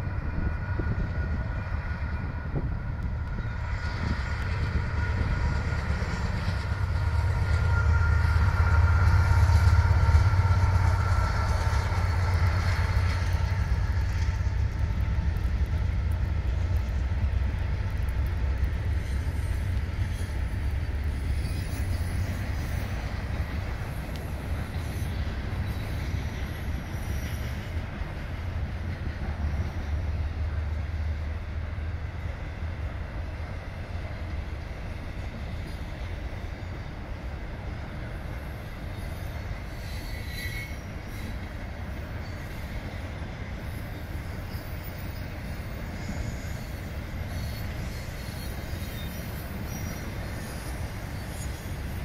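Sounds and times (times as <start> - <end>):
diesel locomotive engine rumble: 0.0 - 52.0
train wheels clattering on rails: 0.0 - 52.0.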